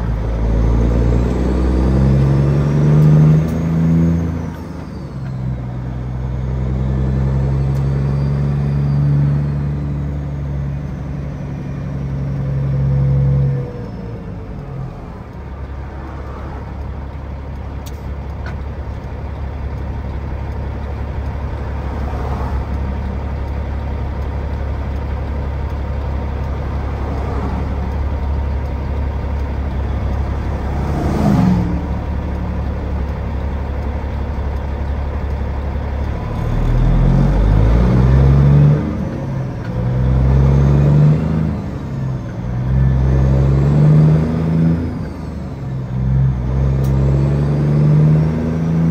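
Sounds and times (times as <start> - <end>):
diesel truck engine drone: 0.0 - 48.9.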